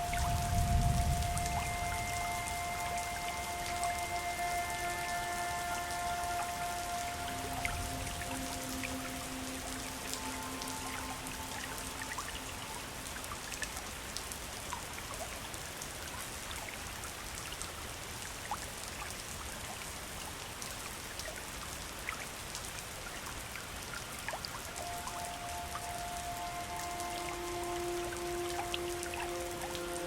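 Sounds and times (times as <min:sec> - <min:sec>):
small splashes and droplet plinks: 0:00.0 - 0:19.9, 0:20.7 - 0:30.0
river water flowing: 0:00.0 - 0:30.0.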